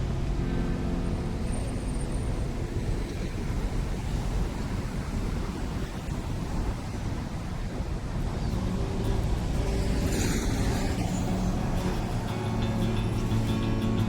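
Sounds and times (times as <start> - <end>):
city traffic rumble: 0.0 - 14.0
wind on microphone: 0.0 - 14.0.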